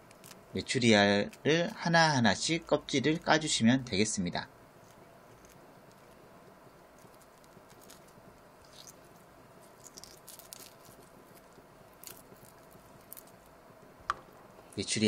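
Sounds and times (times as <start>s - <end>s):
eggshells crackling: 0.0s - 14.8s.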